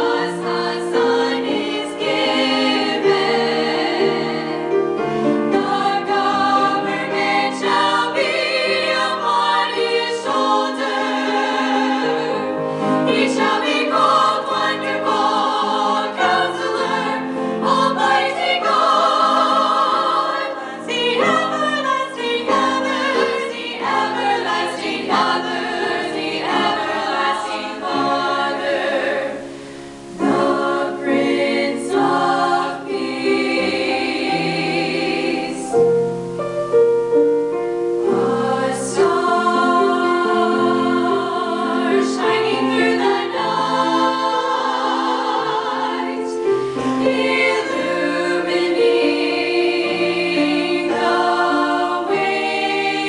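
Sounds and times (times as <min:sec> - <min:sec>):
women singing in harmony: 0:00.0 - 0:35.9, 0:38.0 - 0:53.0.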